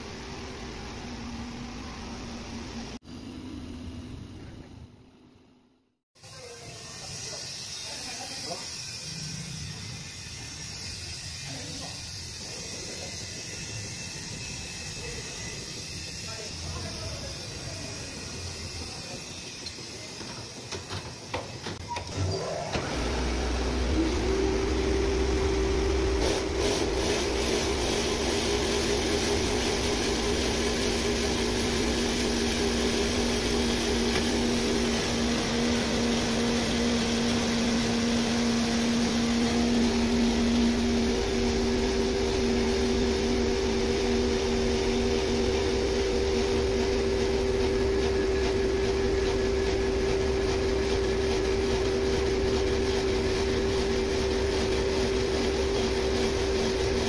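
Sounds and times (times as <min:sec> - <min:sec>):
machine motor whine: 0:06.5 - 0:57.0.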